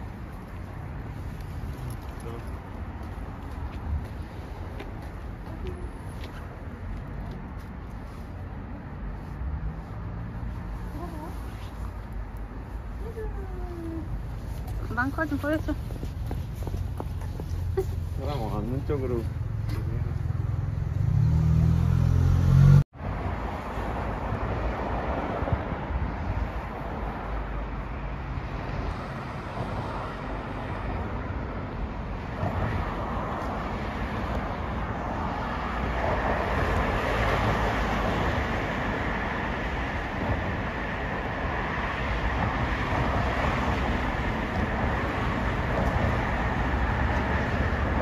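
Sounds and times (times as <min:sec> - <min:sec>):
road traffic passing: 0:00.0 - 0:48.0.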